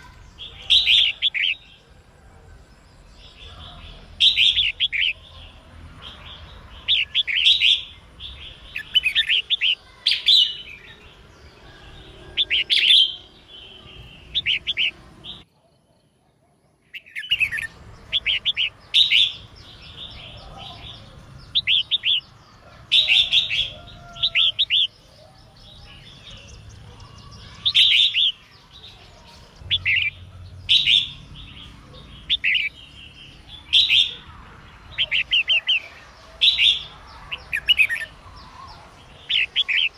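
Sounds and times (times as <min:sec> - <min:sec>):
bird singing warbled phrases: 0:00.0 - 0:16.2, 0:16.8 - 0:39.9.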